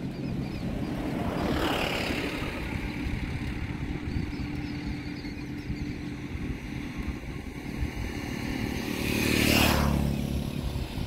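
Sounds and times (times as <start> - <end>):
vehicle hissing pass-by: 0.0 - 4.1, 6.1 - 11.0
constant low hum: 0.0 - 11.0
motor traffic rumble: 0.0 - 11.0.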